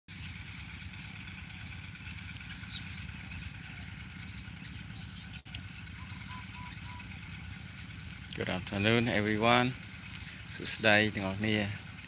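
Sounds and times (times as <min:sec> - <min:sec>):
bird and insect chirps: 0:00.1 - 0:12.0.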